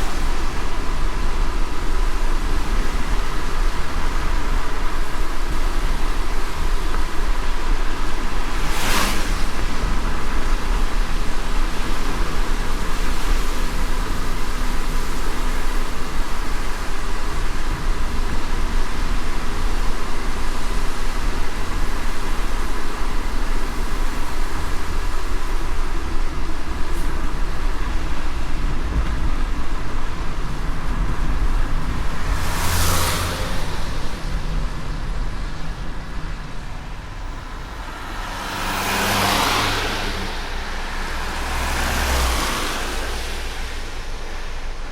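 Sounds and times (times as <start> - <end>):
car road rumble: 0.0 - 44.9
rain and tyre spray hiss: 0.0 - 44.9.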